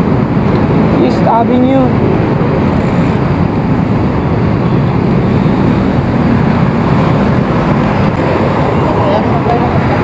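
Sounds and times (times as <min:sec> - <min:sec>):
passing traffic: 0:00.0 - 0:10.0
wind buffeting microphone: 0:00.0 - 0:10.0.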